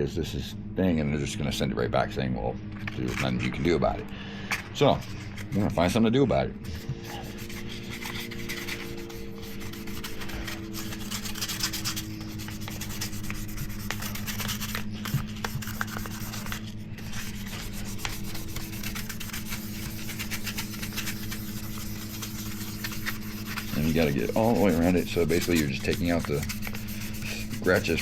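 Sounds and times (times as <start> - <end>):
low hum: 0.0 - 28.0
sandpaper rubbing on plastic: 3.0 - 28.0.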